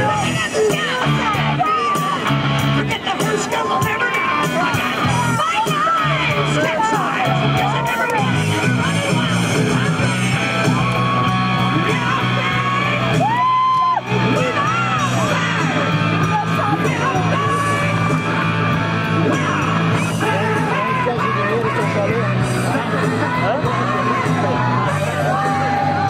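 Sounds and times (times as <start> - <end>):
person yelling and singing: 0.0 - 26.0
rock music: 0.0 - 26.0.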